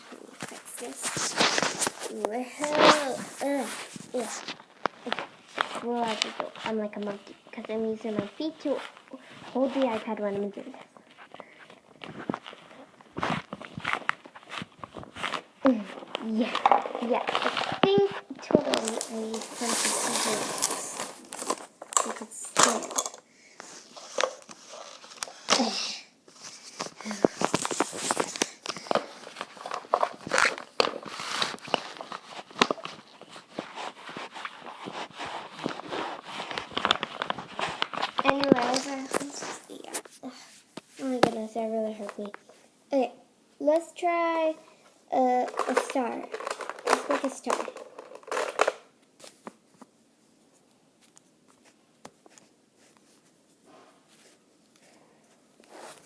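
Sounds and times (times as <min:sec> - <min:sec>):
clicks taps and rustles of play dough: 0:00.4 - 0:42.6, 0:43.6 - 0:56.0.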